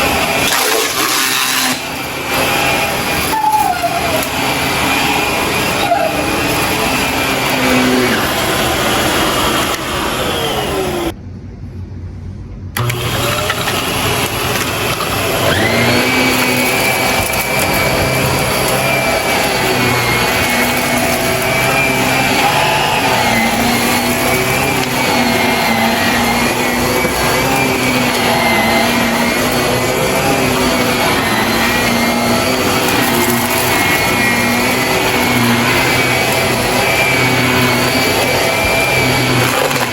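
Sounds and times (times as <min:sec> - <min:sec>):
vacuum cleaner motor whine: 0:00.0 - 0:11.2, 0:12.8 - 0:39.9.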